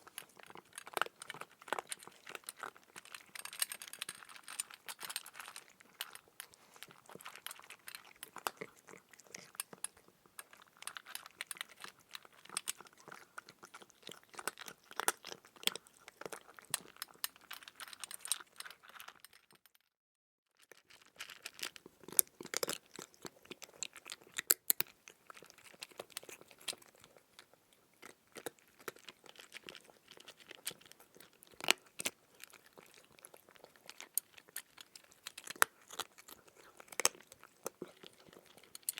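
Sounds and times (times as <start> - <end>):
chewing crisp food: 0.0 - 19.8, 20.5 - 38.9.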